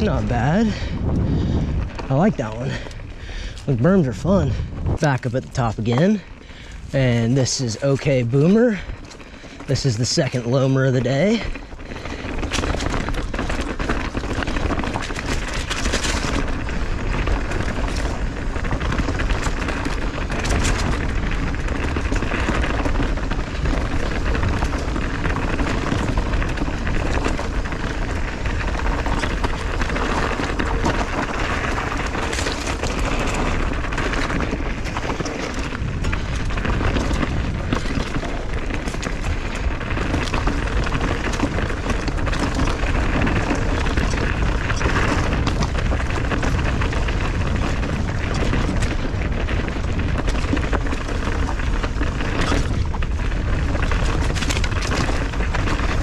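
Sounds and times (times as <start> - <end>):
bike knocking and rattling: 0.0 - 56.0
tyres rolling on dirt: 0.0 - 56.0
wind rumbling on microphone: 0.0 - 56.0.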